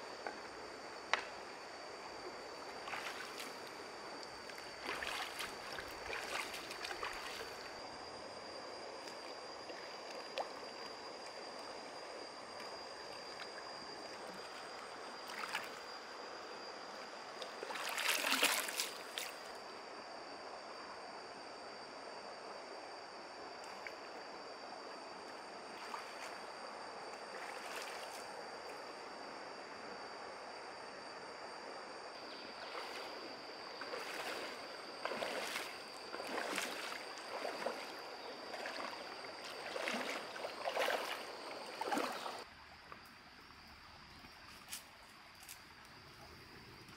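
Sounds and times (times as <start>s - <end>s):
forest stream flowing: 0.0s - 21.8s, 23.3s - 46.9s
high insect drone: 0.0s - 46.9s.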